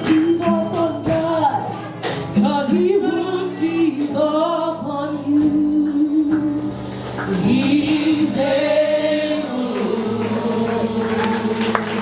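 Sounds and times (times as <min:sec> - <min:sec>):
instrumental backing: 0:00.0 - 0:12.0
voices singing gospel: 0:00.0 - 0:12.0.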